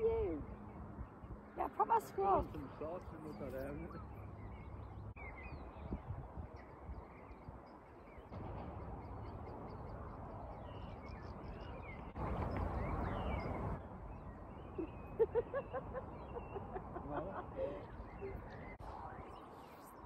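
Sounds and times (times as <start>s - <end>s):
small birds chirping: 0.0s - 20.0s
wind rumbling on microphone: 0.0s - 20.0s.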